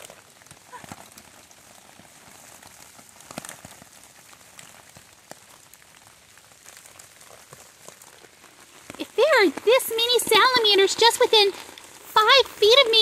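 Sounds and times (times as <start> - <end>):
rain on wet leaves: 0.0 - 13.0.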